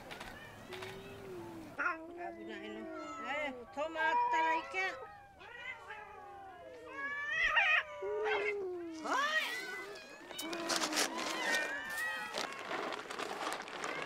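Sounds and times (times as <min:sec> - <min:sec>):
cats meowing: 0:00.0 - 0:14.0.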